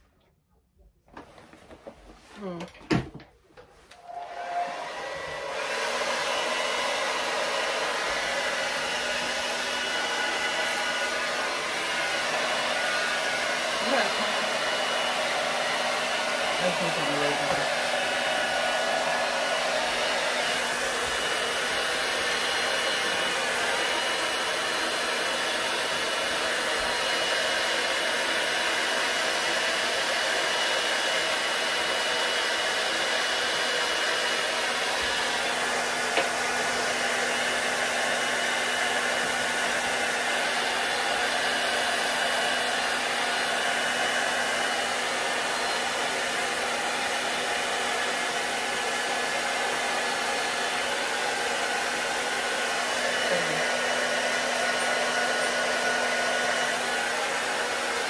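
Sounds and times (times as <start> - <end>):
hair dryer blowing: 2.4 - 58.0.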